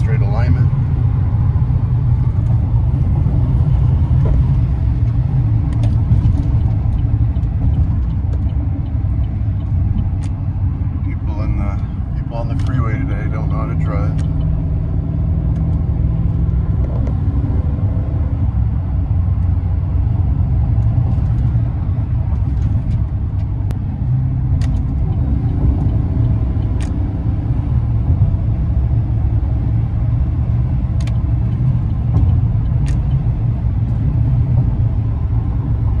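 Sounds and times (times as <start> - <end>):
road noise: 0.0 - 36.0
truck engine rumble: 0.0 - 36.0.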